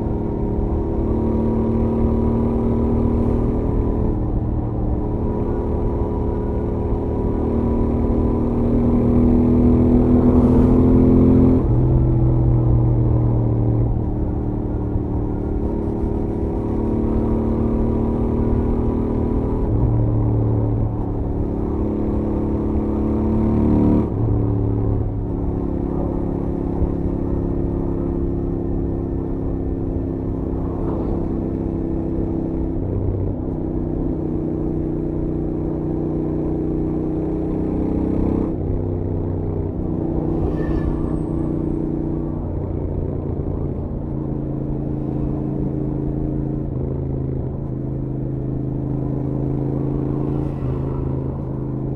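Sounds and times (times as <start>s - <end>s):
motorcycle engine at speed: 0.0s - 51.9s.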